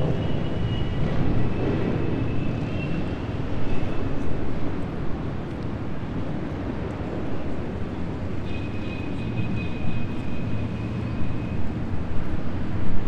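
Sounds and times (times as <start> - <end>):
low rumble of engines: 0.0 - 13.0.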